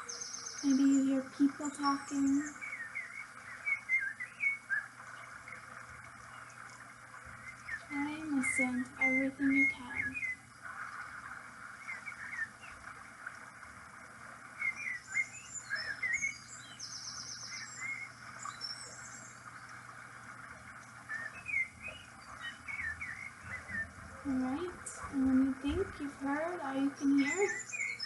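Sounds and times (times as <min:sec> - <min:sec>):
birds chirping and calling: 0:00.0 - 0:12.9, 0:14.6 - 0:19.8, 0:21.0 - 0:28.0.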